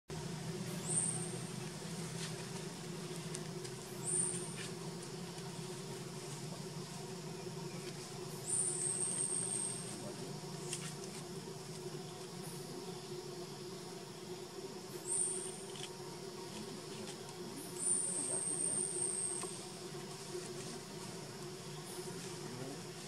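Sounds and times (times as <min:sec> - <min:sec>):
steady low hum: 0:00.1 - 0:23.0
high thin insect calls: 0:00.2 - 0:23.0.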